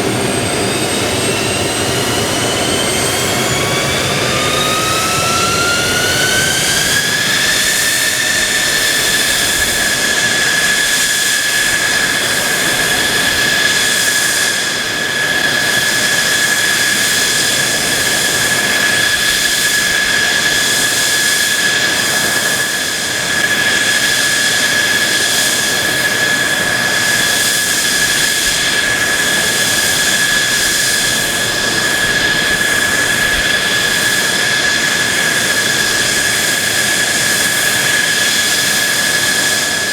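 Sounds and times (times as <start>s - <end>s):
high jet whine: 0.0s - 39.9s
jet engine roaring: 0.0s - 39.9s.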